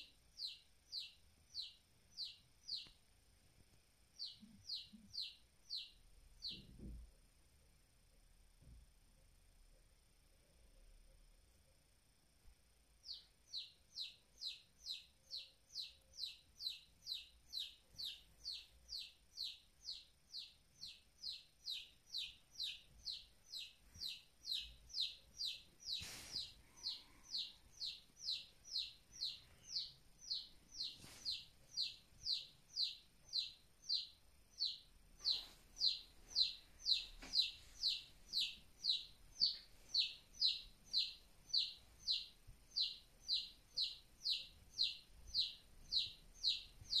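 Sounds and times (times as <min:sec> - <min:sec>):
baby chick peeping: 0:00.0 - 0:07.0, 0:13.0 - 0:47.0.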